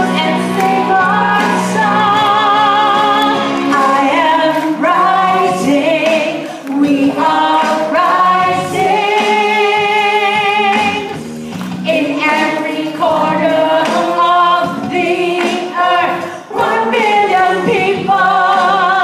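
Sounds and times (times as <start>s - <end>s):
woman singing into a microphone: 0.0s - 11.2s, 11.8s - 19.0s
musical backing: 0.0s - 19.0s.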